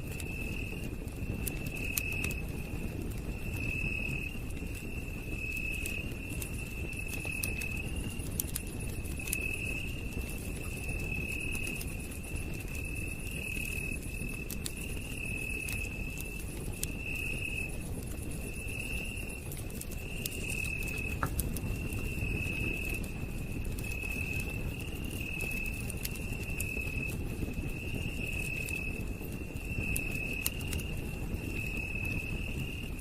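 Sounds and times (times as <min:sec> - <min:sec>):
campfire crackling and popping: 0:00.0 - 0:33.0
crickets trilling: 0:00.0 - 0:33.0.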